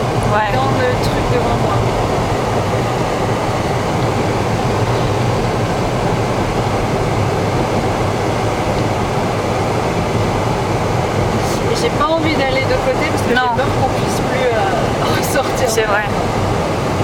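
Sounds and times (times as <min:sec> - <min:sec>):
car cabin road and engine noise: 0:00.0 - 0:17.0.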